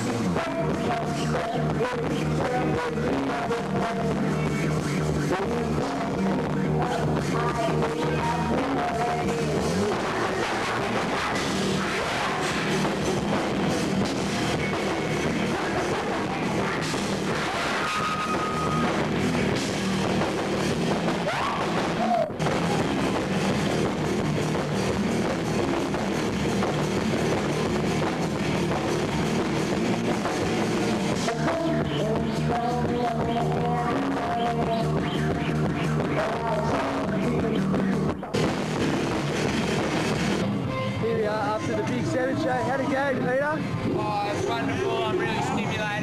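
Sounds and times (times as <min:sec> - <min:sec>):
rock band playing live: 0:00.0 - 0:46.0.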